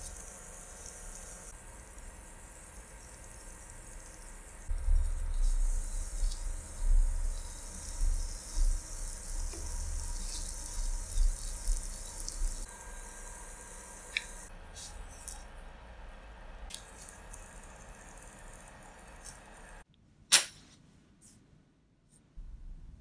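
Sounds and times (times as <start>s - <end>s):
oil sizzling in a pan: 0.0s - 15.8s, 16.6s - 19.8s.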